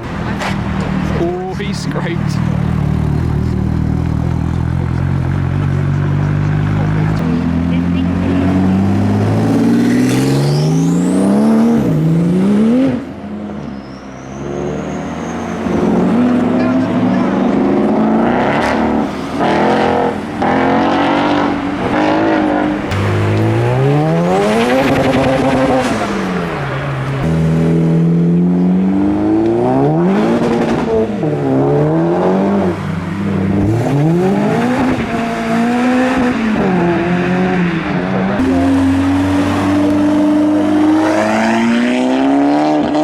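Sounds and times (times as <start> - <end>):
car engines revving hard: 0.0 - 43.0.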